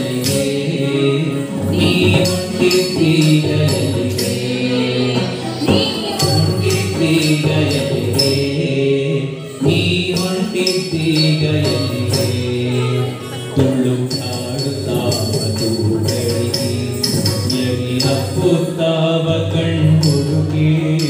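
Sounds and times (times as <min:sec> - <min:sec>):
person chanting melody: 0:00.0 - 0:21.0
rhythmic percussion strokes: 0:00.0 - 0:21.0.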